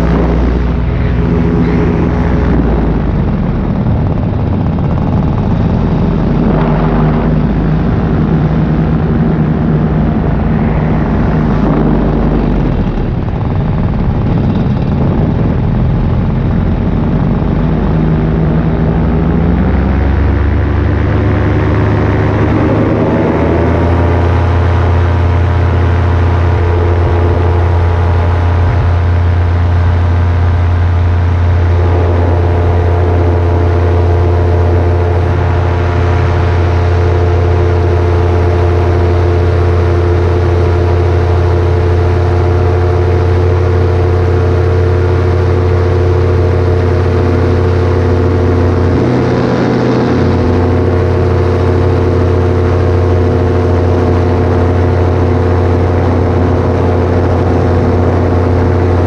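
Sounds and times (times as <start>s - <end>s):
paramotor engine droning: 0.0s - 59.0s.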